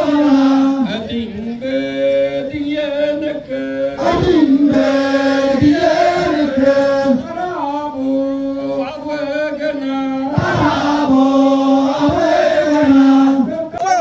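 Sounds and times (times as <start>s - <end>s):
group chanting in unison: 0.0s - 13.8s.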